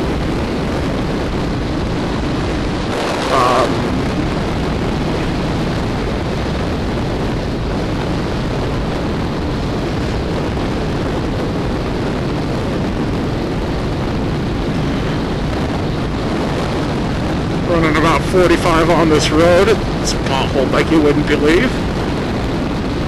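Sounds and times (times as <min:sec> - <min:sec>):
wind rush: 0:00.0 - 0:23.0.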